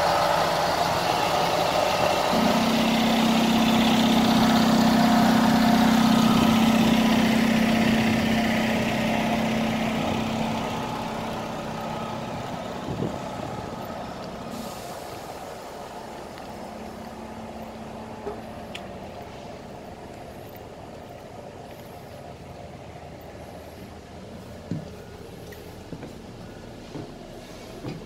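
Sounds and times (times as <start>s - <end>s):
bus idling hum: 0.0s - 28.0s.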